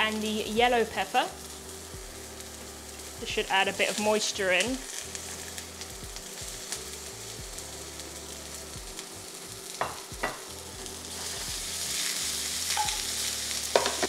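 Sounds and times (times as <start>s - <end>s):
vegetables sizzling in frying pan: 0.0s - 14.0s.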